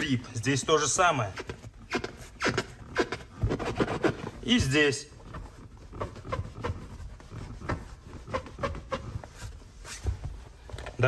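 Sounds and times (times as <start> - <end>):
seat foam squeaking and creaking: 0.0 - 11.0.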